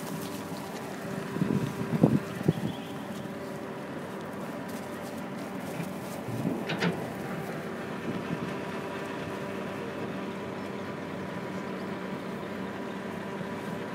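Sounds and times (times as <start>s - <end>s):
vehicle engine humming: 0.0s - 13.9s.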